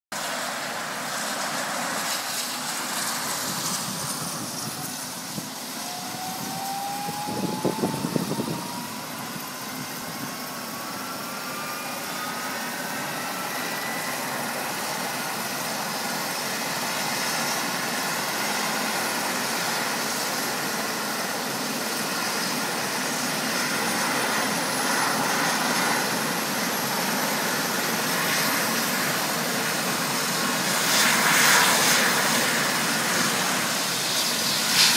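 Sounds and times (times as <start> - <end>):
helicopter turbine whine: 0.2 - 34.9.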